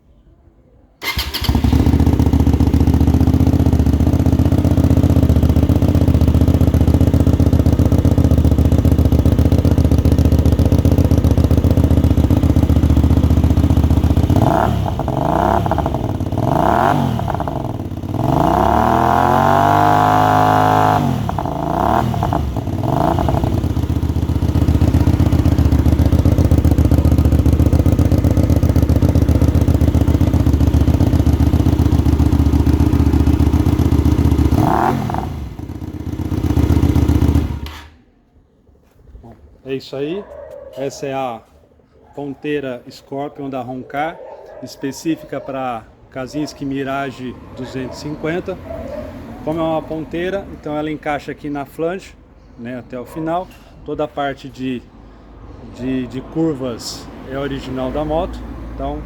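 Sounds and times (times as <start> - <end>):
motorcycle engine idling and revving: 1.0 - 38.1, 44.3 - 51.5, 54.3 - 59.0.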